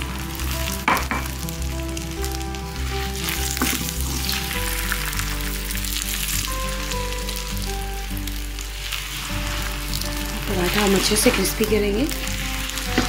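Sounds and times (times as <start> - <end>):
background music with held notes: 0.0 - 13.0
oil sizzling on a griddle: 0.0 - 13.0.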